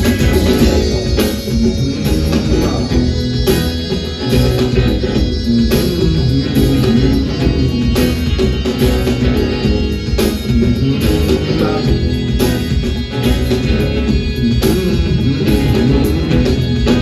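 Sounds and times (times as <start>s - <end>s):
electric guitar: 0.0s - 17.0s
heavy bass line: 0.0s - 17.0s
steady drum beat: 0.0s - 17.0s.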